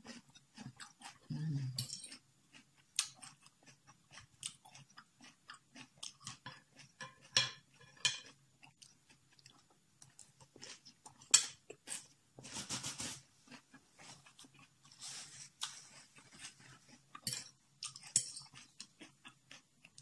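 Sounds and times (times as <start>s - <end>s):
chewing crunchy vegetables: 0.0s - 20.0s.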